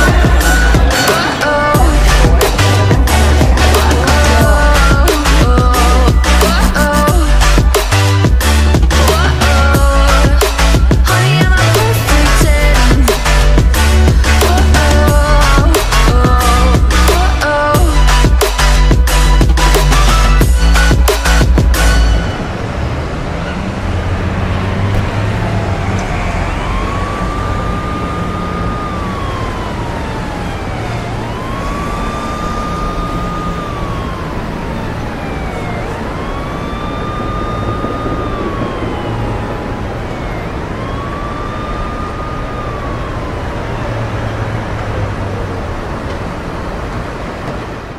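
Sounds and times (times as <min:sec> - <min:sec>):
emergency siren wailing: 0:00.0 - 0:47.9
low hum of city traffic: 0:00.0 - 0:47.9.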